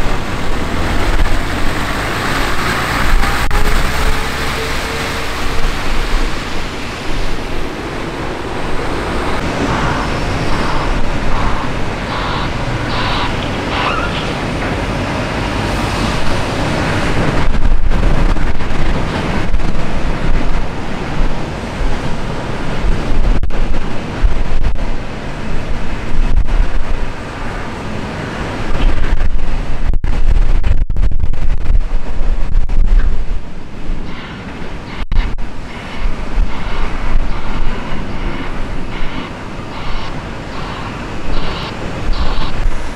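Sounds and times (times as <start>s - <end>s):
diesel engines working: 0.0s - 29.8s, 33.4s - 42.9s
dense rushing noise: 0.0s - 42.9s.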